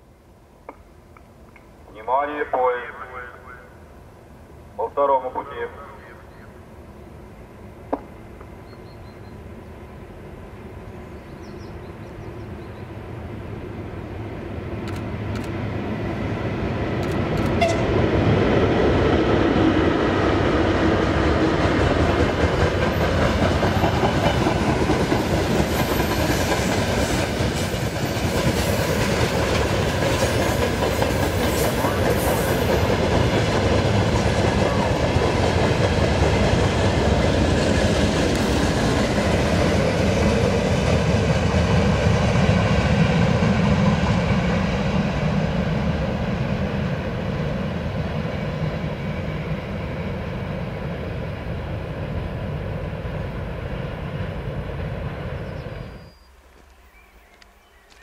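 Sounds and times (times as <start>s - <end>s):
electric locomotive passing: 1.5s - 58.0s.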